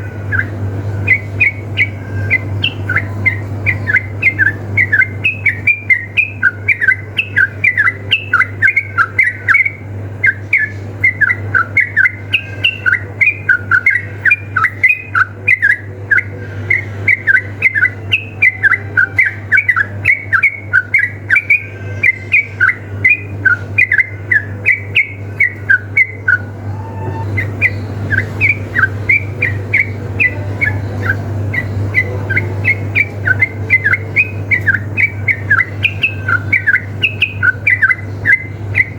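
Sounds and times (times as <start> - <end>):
bulbuls chirping: 0.0 - 38.9
steady low hum: 0.0 - 38.9.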